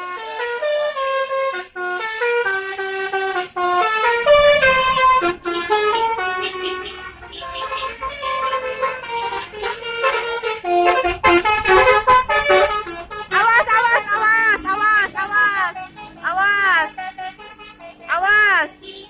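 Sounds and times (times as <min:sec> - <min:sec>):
musical bus horn melody: 0:00.0 - 0:19.0.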